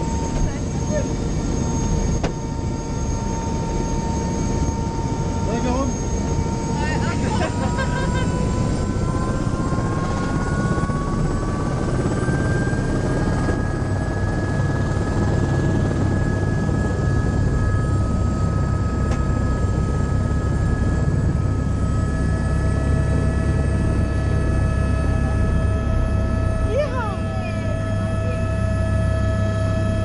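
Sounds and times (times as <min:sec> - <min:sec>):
helicopter rotor rumble: 0:00.0 - 0:30.0
helicopter turbine whine: 0:00.0 - 0:30.0.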